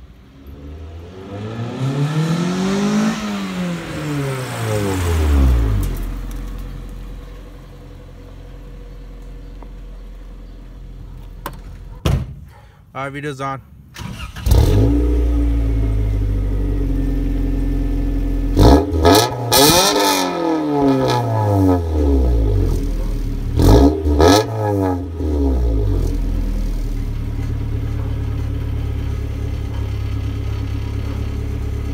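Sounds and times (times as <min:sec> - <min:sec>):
car engine idling and revving: 0:00.0 - 0:11.8, 0:14.1 - 0:31.9.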